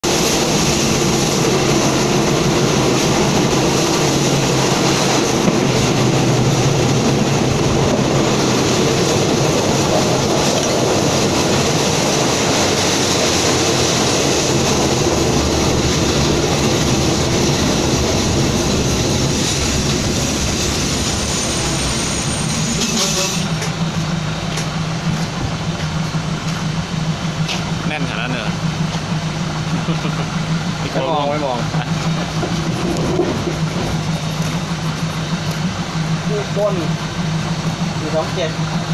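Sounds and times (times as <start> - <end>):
train wheel and rail noise: 0.0 - 38.9
wind: 0.0 - 38.9.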